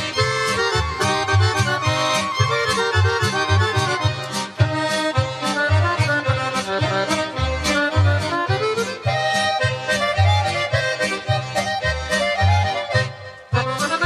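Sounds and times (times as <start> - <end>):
accordion playing folk dance music: 0.0 - 14.0.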